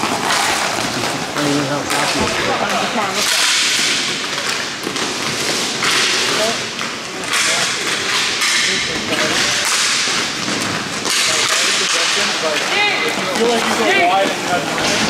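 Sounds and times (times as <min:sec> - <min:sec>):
skates scraping on ice: 0:00.0 - 0:15.0
sticks and puck slapping: 0:00.0 - 0:15.0.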